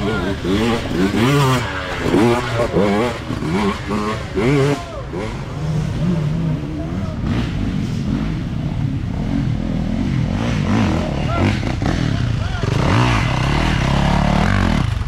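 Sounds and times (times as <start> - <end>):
people's voices: 0.0 - 9.4, 10.9 - 14.6
dirt bike engines revving: 0.0 - 15.0.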